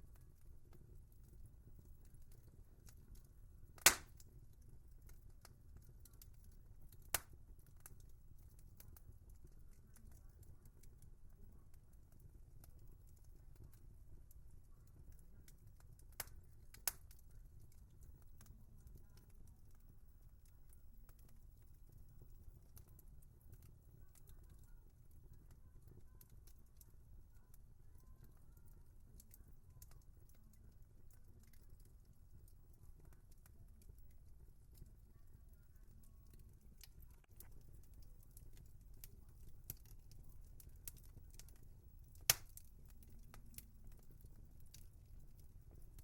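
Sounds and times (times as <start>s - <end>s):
low fire rumble: 0.0s - 46.0s
wood fire crackling: 0.0s - 46.0s.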